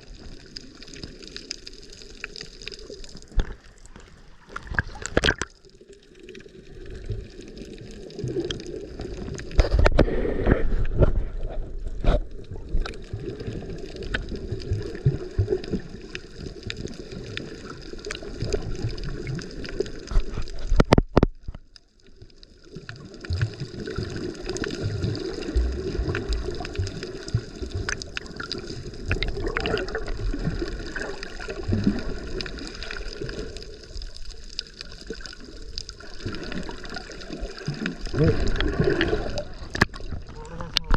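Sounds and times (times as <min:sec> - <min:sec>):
muffled water sloshing and gurgling: 0:00.0 - 0:40.9.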